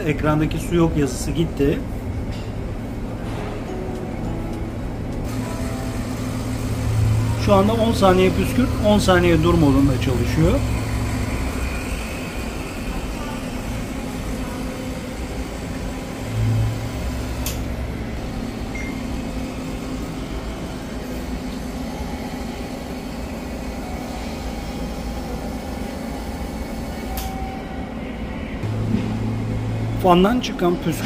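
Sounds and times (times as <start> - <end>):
electric fan running: 0.0 - 31.0
misting machine pump humming: 0.6 - 27.2, 28.6 - 31.0.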